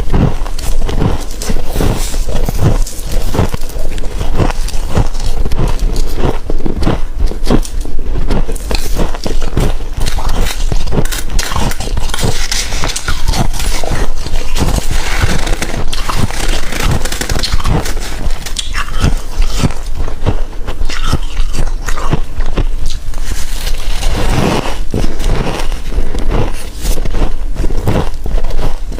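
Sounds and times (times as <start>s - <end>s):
frost being chewed crunching: 0.0s - 28.9s.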